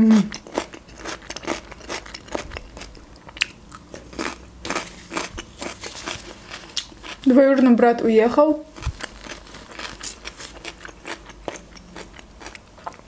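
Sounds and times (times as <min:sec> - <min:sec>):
crisp wet chewing crunches: 0:00.3 - 0:07.4, 0:08.7 - 0:13.0.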